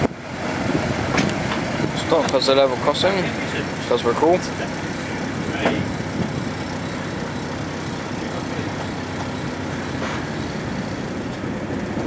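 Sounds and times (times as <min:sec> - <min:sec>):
locomotive diesel engine running: 0:00.0 - 0:12.0.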